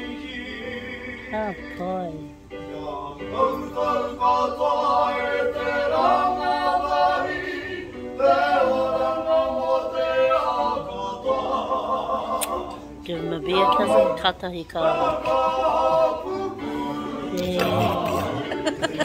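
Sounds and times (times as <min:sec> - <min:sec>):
boys singing a slow song: 0:00.0 - 0:19.0.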